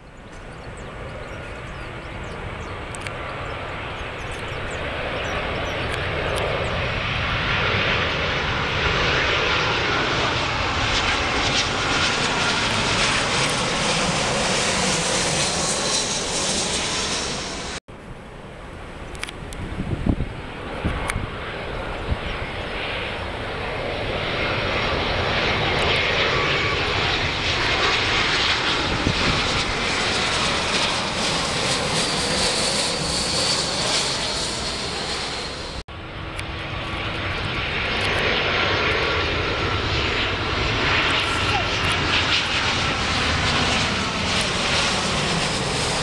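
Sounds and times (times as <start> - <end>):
airliner engines rumble and whine: 0.0 - 46.0.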